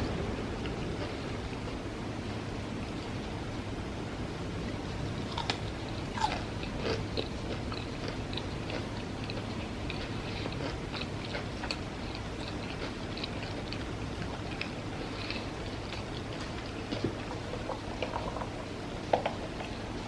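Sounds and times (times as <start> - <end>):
person chewing food: 0.1 - 3.4, 5.1 - 20.0.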